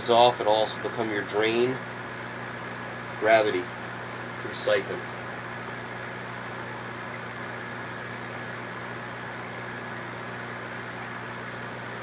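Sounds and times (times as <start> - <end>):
fan-like hiss: 0.0 - 12.0
low electrical buzz: 0.0 - 12.0.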